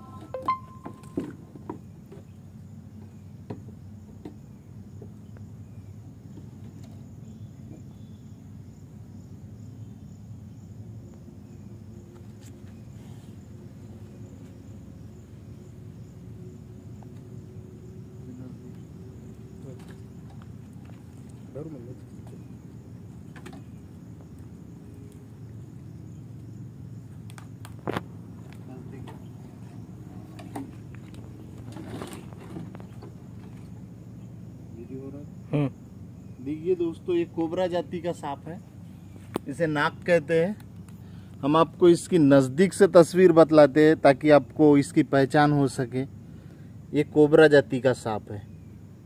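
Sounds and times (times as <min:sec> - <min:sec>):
insects chirping: 0:00.0 - 0:49.0.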